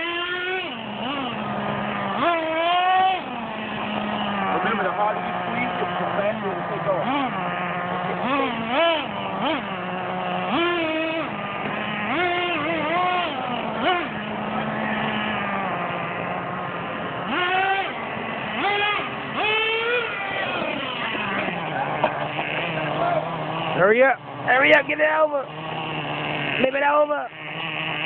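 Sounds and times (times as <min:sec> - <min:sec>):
small engine idling and revving: 0:00.0 - 0:28.0.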